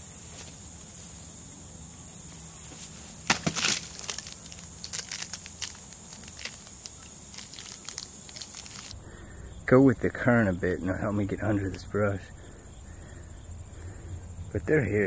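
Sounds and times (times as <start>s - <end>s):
steady high hiss: 0.0s - 15.0s
twigs and brush crackling: 2.6s - 15.0s.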